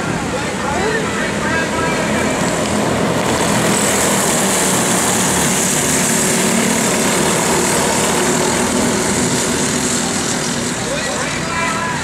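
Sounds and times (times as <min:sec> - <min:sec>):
go-kart engines buzzing: 0:00.0 - 0:12.0.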